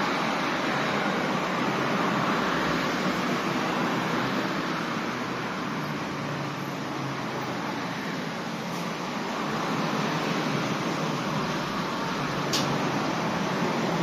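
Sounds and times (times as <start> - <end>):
traffic tyre hiss: 0.0 - 14.0.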